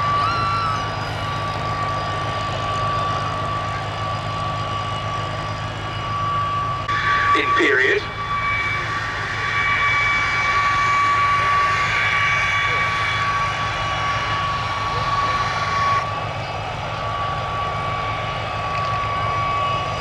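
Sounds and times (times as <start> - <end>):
propeller plane engine running: 0.0 - 20.0
steady high whine: 0.0 - 20.0.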